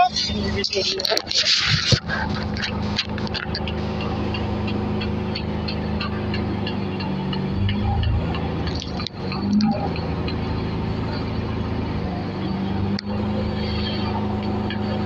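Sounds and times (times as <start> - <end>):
crane engine running under load: 0.0 - 15.0.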